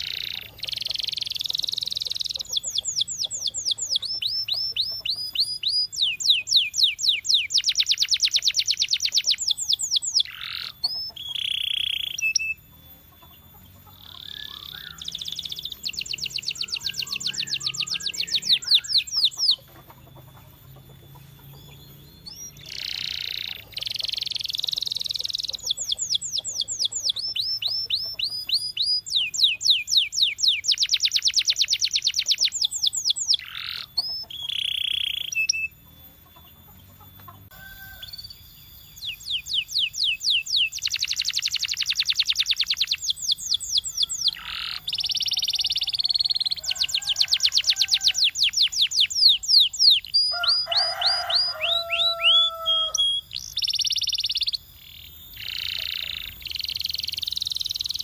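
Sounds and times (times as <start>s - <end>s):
canary singing fast trills: 0.0s - 58.0s.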